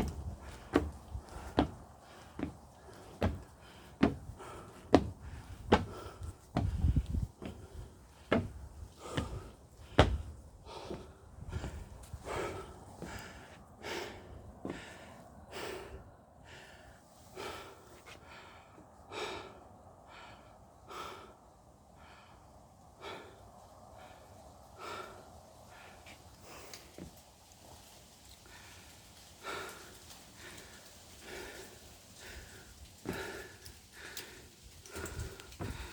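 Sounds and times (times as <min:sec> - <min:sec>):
person breathing hard: 0:00.0 - 0:27.2, 0:28.4 - 0:35.9.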